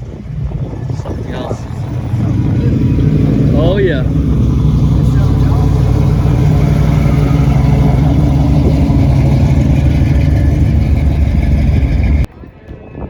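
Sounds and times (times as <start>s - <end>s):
car engine rumbling: 0.0s - 12.3s.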